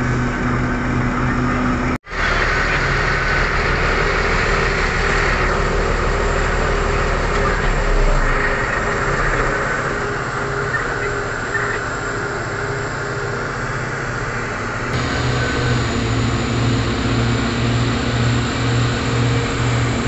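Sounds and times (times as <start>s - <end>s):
heavy diesel engines rumbling: 0.0s - 20.0s.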